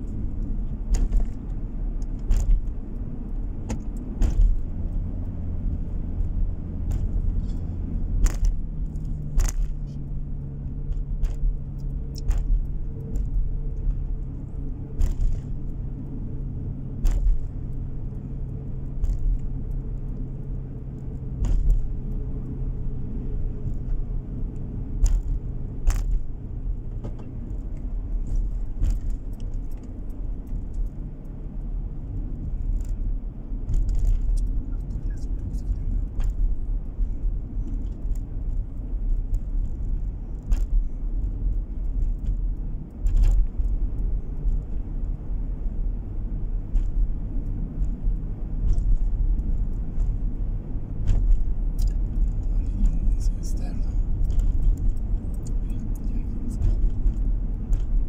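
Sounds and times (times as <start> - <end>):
light clicks and rattles: 0.0 - 58.0
road and engine rumble: 0.0 - 58.0.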